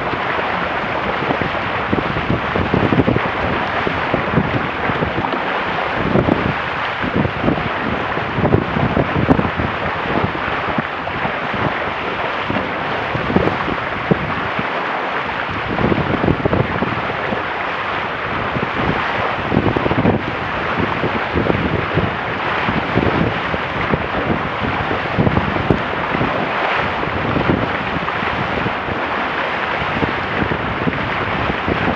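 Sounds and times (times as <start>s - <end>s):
water rushing along hulls: 0.0s - 31.9s
wind buffeting microphone: 0.0s - 31.9s.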